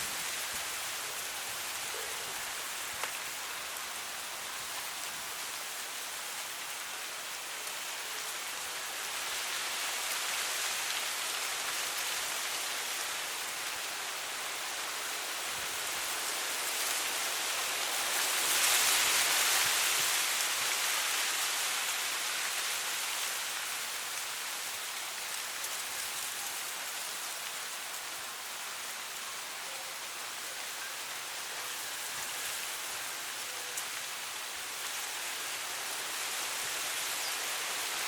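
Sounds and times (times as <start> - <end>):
wind rustling through dry grass: 0.0 - 38.0.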